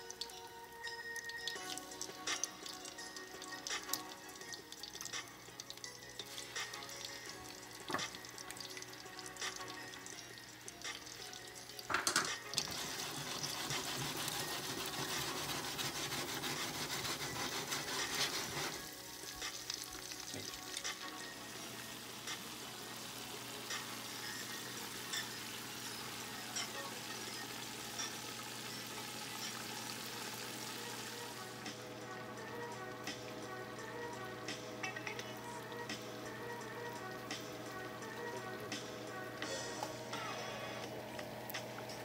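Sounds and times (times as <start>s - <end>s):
fish deep-frying in oil: 0.0s - 42.0s.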